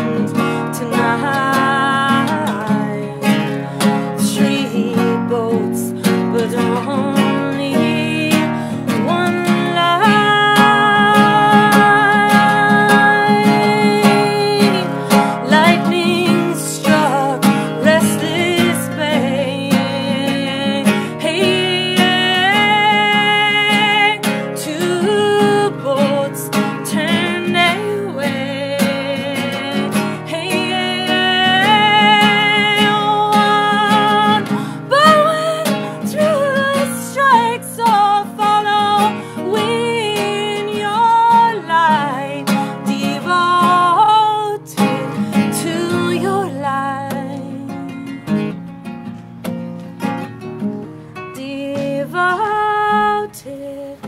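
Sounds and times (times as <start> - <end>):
woman singing: 0.0 - 48.7, 50.6 - 54.0
acoustic guitar strumming: 0.0 - 54.0.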